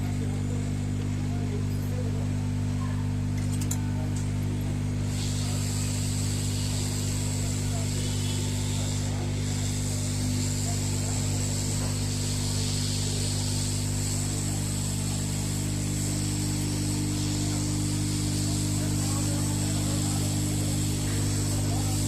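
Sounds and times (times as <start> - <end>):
hot air station hum and hiss: 0.0 - 22.0.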